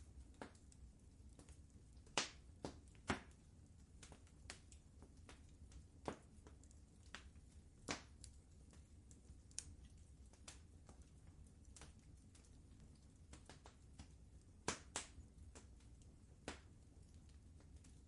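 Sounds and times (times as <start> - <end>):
faint low rumble: 0.0 - 18.0
wood fire crackling: 0.0 - 18.0.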